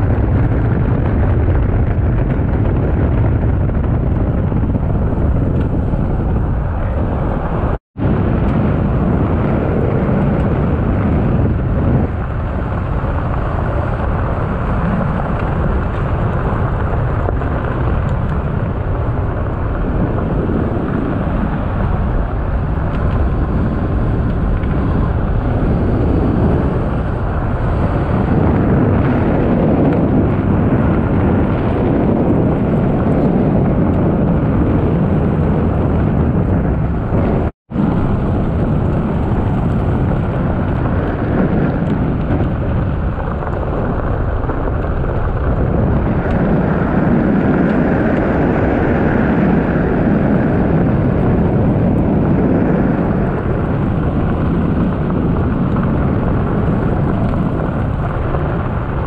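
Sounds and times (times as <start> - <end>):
wind buffeting a microphone: 0.0 - 59.0.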